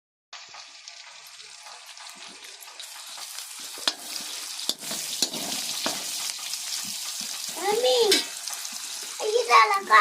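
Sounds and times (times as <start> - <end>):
food sizzling in a frying pan: 0.4 - 10.0.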